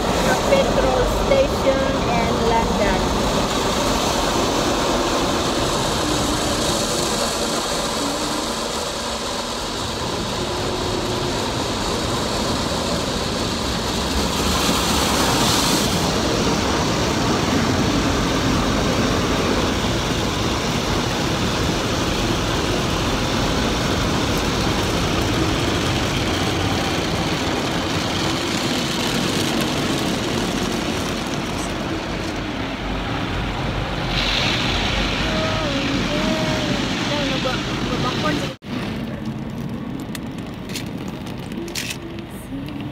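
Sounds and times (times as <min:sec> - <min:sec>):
car wash water spraying: 0:00.0 - 0:42.9.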